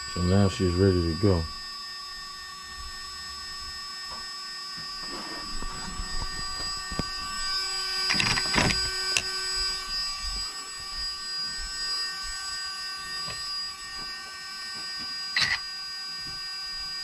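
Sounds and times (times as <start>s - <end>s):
flywheel spinning high whine: 0.0s - 17.0s.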